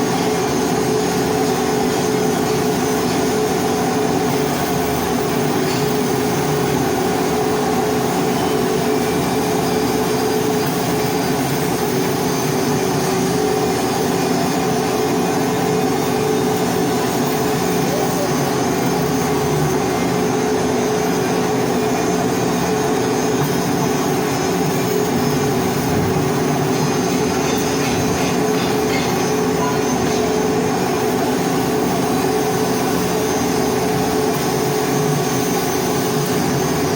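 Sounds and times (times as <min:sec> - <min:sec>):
welding equipment humming and hissing: 0:00.0 - 0:36.9.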